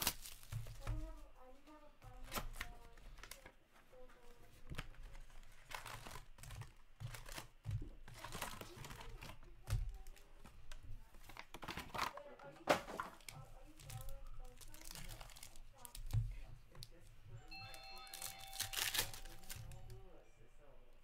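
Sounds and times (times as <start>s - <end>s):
foil wrappers crinkling: 0.0s - 17.0s, 17.6s - 20.1s.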